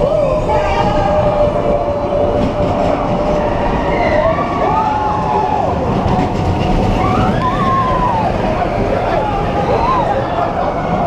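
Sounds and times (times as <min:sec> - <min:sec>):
roller coaster train rumbling: 0:00.0 - 0:11.0.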